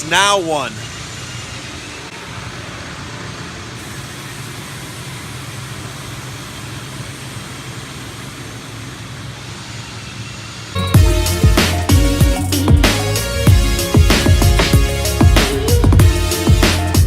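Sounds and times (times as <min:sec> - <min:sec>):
machine drone: 0:00.0 - 0:17.0.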